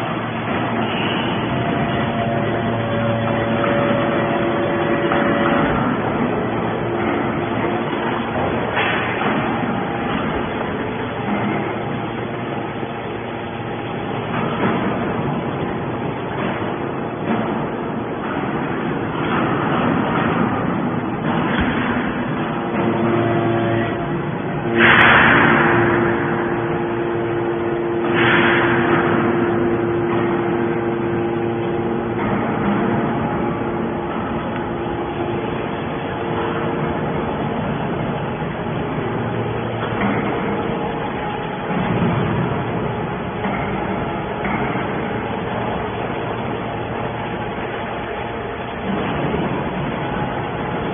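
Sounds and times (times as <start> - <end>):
hydraulic baler running: 0.0 - 50.9.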